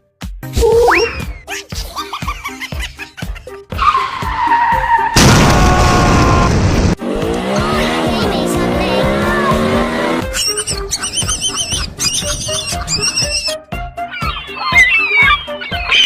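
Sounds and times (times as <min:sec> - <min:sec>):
background music: 0:00.0 - 0:06.2, 0:07.0 - 0:16.0.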